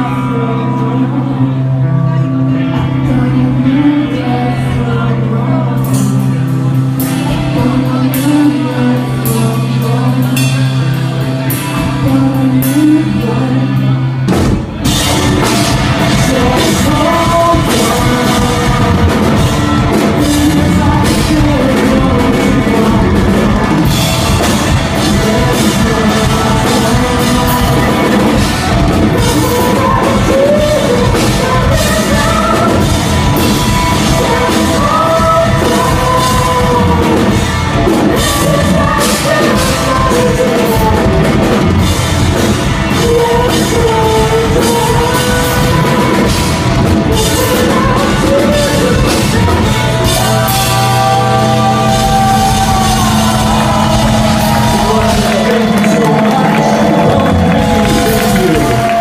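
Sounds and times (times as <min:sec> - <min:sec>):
person singing: 0:00.0 - 0:59.0
rock band playing: 0:00.0 - 0:59.0.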